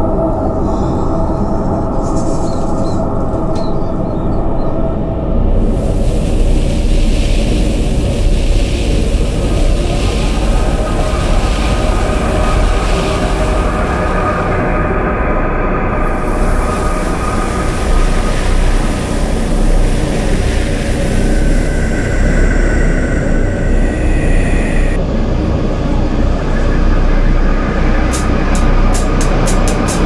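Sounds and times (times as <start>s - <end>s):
low rumbling drone with held tones: 0.0s - 30.0s.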